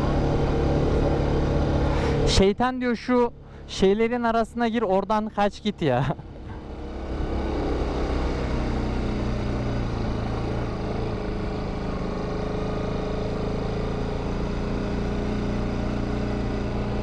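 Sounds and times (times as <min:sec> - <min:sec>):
motorcycle engine running: 0:00.0 - 0:02.4, 0:05.6 - 0:17.0.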